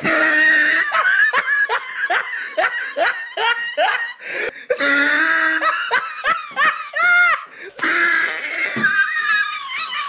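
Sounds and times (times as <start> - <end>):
person laughing hard: 0.0 - 10.0.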